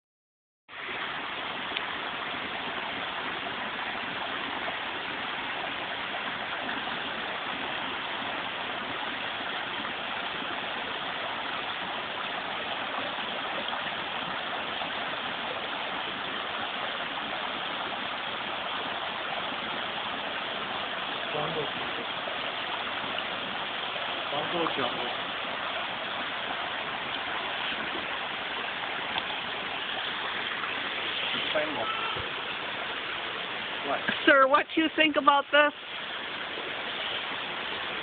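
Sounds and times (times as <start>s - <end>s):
brook babbling over rocks: 0.7s - 38.0s.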